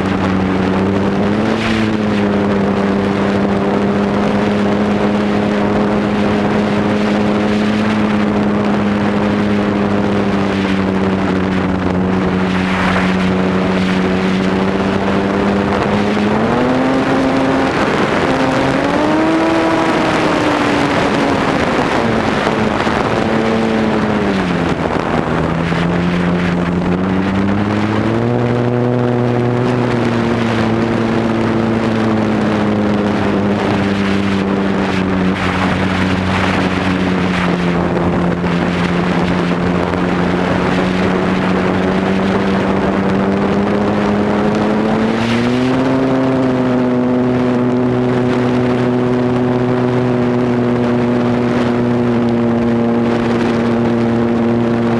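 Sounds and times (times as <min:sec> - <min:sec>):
model airplane motor droning: 0:00.0 - 0:54.9
wind rush: 0:00.0 - 0:54.9.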